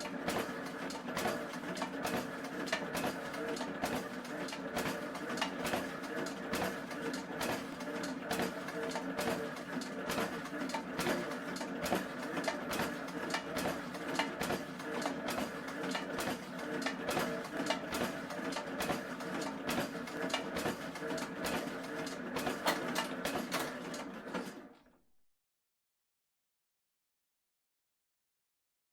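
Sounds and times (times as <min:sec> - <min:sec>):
printing machine clicking: 0:00.0 - 0:24.7.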